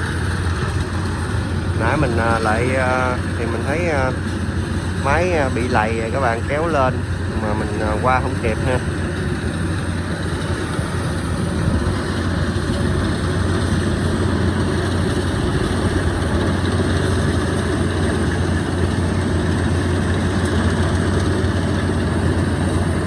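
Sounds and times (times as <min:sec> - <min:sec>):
heavy farm machinery engine hum: 0:00.0 - 0:23.0.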